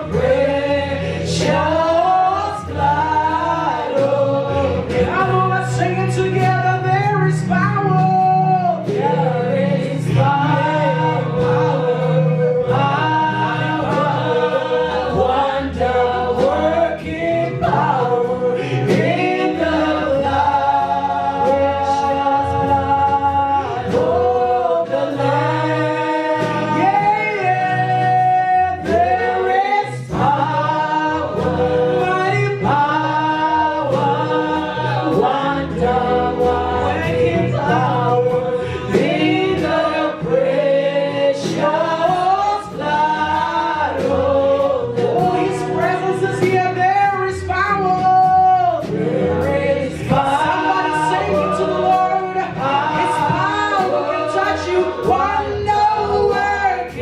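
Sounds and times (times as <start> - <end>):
choir singing gospel song: 0.0 - 57.0
instrumental accompaniment: 0.0 - 57.0.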